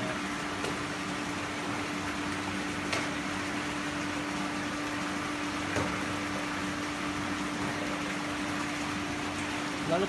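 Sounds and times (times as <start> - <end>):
pond equipment humming and hissing: 0.0 - 10.0.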